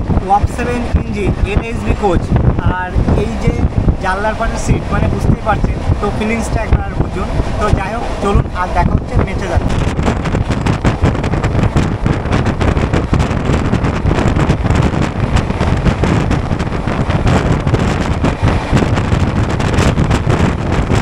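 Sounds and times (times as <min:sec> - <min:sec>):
train wheels rumbling on rail: 0:00.0 - 0:21.0
wind buffeting microphone: 0:00.0 - 0:21.0.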